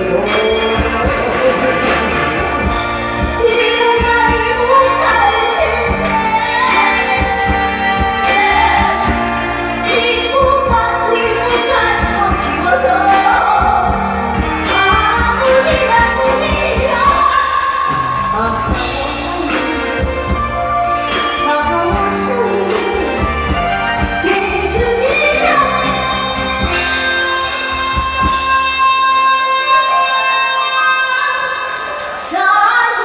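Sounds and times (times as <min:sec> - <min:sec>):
pop backing music with beat: 0:00.0 - 0:33.0
woman singing: 0:00.0 - 0:33.0.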